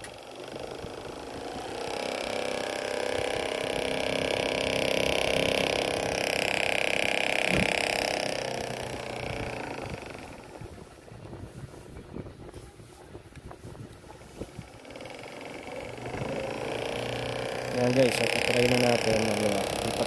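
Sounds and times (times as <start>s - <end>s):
small motor whining: 0.0s - 12.0s, 13.5s - 20.0s.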